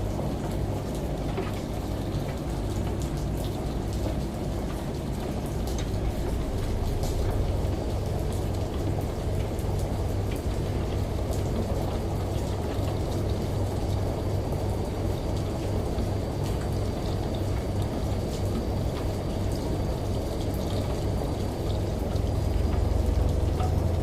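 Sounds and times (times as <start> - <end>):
rain drops ticking: 0.0 - 24.0.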